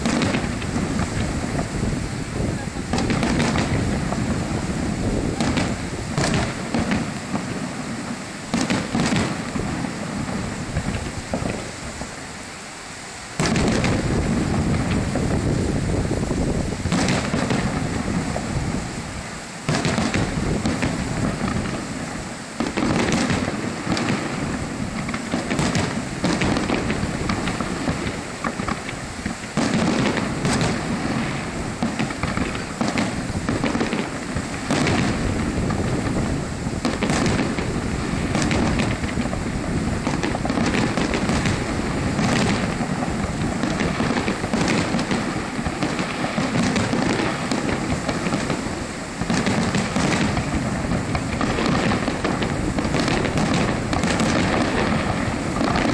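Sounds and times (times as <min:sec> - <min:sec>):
continuous rumble: 0:00.0 - 0:12.4, 0:13.4 - 0:55.9
firework shells bursting: 0:00.0 - 0:55.9.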